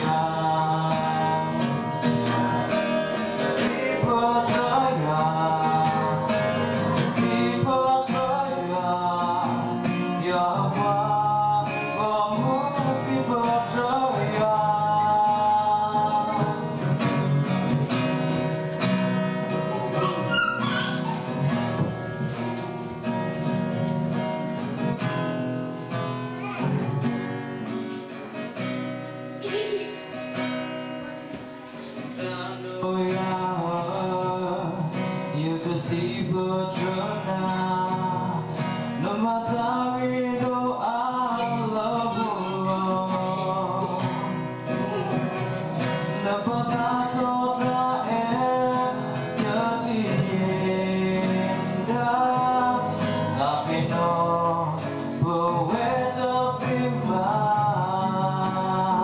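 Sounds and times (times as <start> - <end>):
acoustic guitar strumming chords: 0.0 - 59.0
man singing: 0.0 - 59.0.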